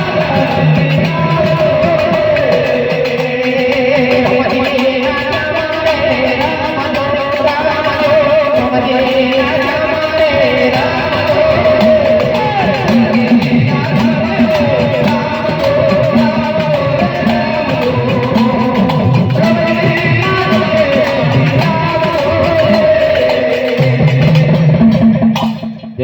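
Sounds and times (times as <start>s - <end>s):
devotional folk song: 0.0s - 25.3s
steady percussion beat: 0.0s - 26.0s.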